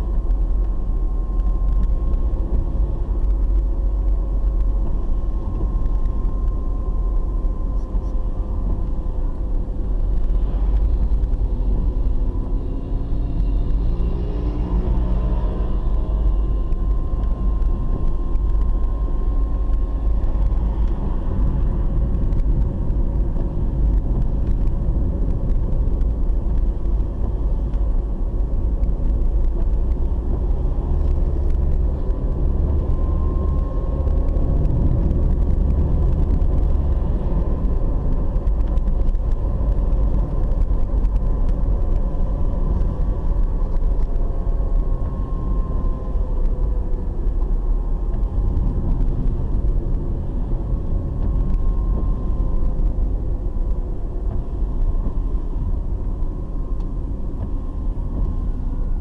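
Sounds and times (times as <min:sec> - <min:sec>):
car engine and tyre rumble: 0:00.0 - 0:59.0
faint steady whine: 0:00.0 - 0:59.0.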